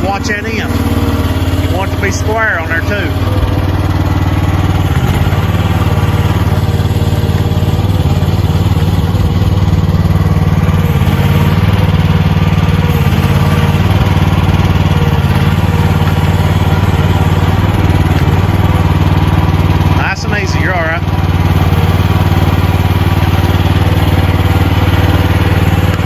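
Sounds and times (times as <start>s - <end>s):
machine engine throbbing: 0.0s - 26.0s.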